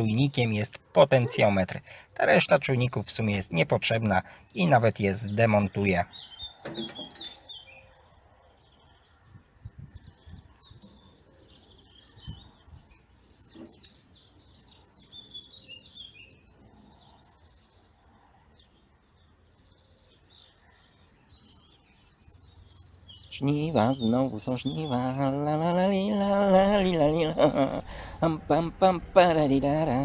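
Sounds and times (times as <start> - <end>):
faint birds chirping: 0.0 - 30.0.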